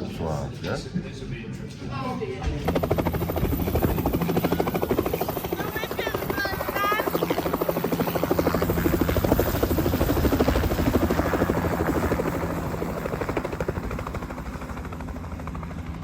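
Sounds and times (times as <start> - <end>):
helicopter rotor beating: 2.4 - 16.0.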